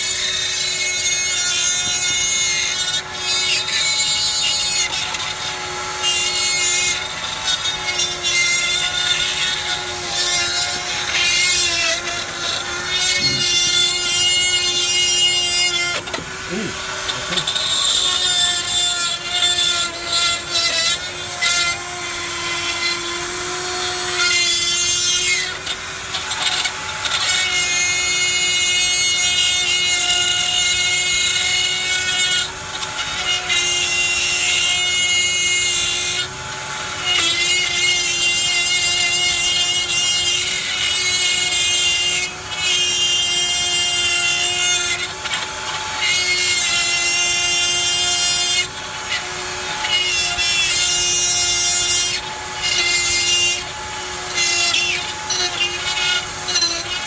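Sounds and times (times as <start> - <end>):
power tool grinding metal: 0.0 - 57.0.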